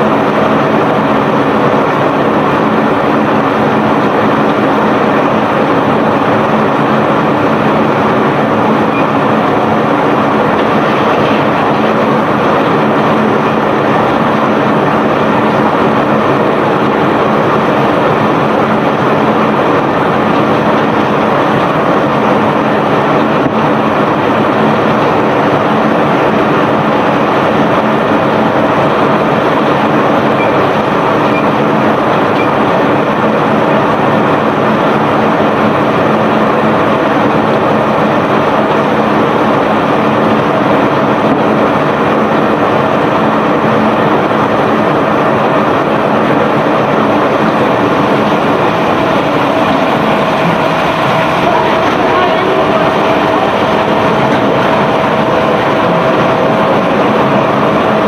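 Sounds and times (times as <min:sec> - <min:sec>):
conveyor rattling rumble: 0:00.0 - 0:58.0
steady machinery hum: 0:00.0 - 0:58.0.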